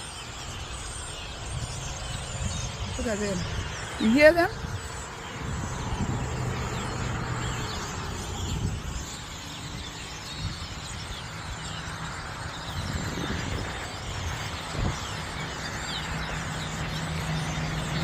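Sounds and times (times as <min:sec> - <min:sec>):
flock of birds chirping: 0:00.0 - 0:18.0.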